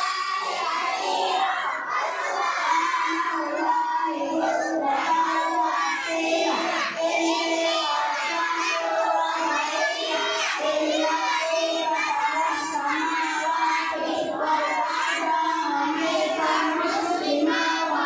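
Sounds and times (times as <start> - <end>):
children chanting in unison: 0.0 - 18.0.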